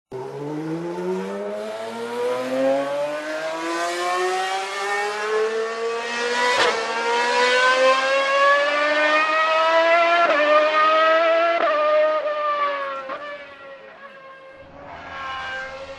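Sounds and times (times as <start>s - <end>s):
racing car engine accelerating: 0.1s - 15.9s.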